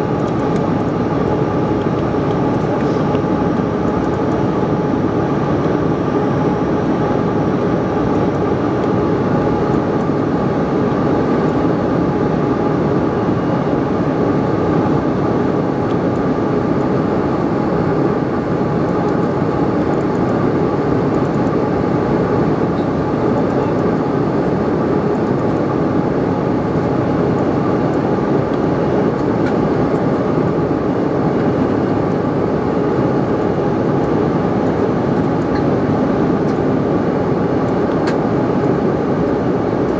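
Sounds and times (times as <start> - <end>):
jet engines and airflow rushing: 0.0 - 39.9.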